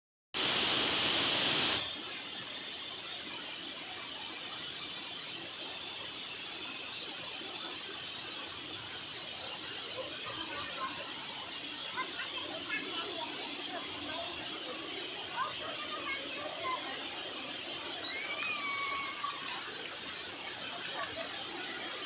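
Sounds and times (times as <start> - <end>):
bright hiss: 0.4 - 22.0.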